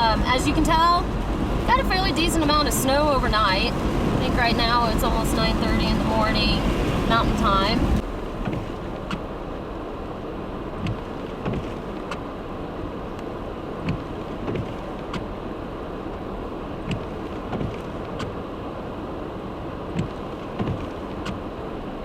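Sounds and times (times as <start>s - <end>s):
tyre and road noise: 0.0s - 22.0s.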